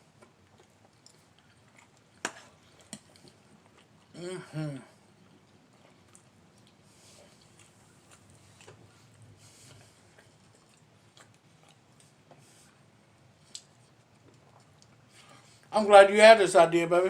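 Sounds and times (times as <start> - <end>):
faint eating sounds: 0.0 - 16.4.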